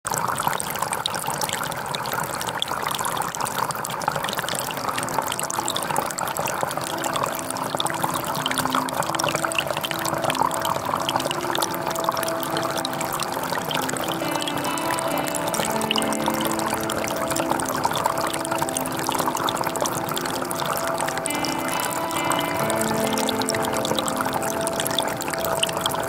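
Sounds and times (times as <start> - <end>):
water rushing along a channel: 0.1 - 26.0
faint background music: 3.9 - 26.0.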